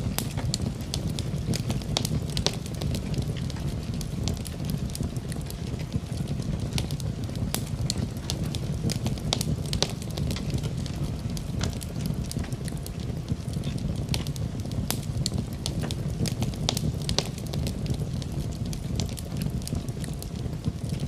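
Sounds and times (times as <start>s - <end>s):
burning logs crackling and popping: 0.0s - 21.0s
low roar of flames: 0.0s - 21.0s.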